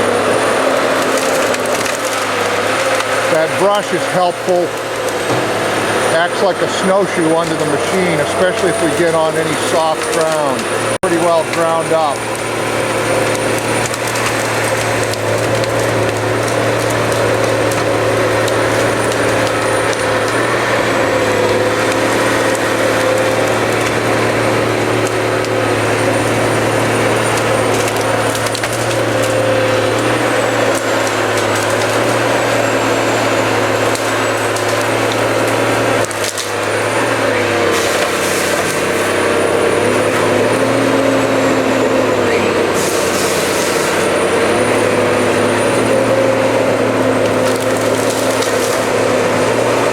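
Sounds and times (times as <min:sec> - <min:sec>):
harvester engine running: 0:00.0 - 0:49.9
wood cracking and splintering: 0:00.0 - 0:49.9.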